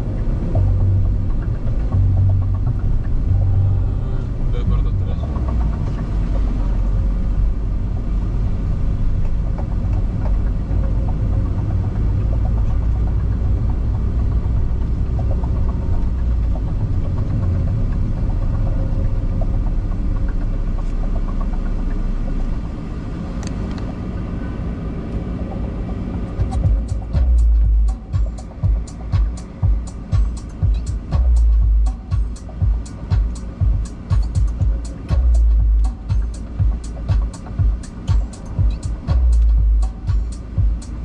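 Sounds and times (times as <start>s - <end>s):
car engine and tyres rumbling: 0.0s - 41.0s.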